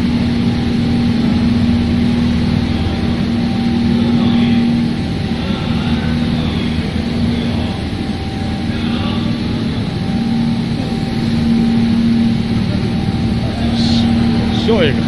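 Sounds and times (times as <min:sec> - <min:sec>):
constant rumble: 0:00.0 - 0:15.0
machinery humming: 0:00.0 - 0:15.0.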